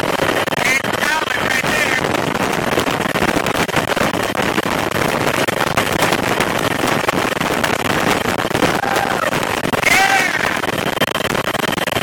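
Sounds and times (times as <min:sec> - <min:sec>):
helicopter cabin engine and rotor noise: 0:00.0 - 0:12.0.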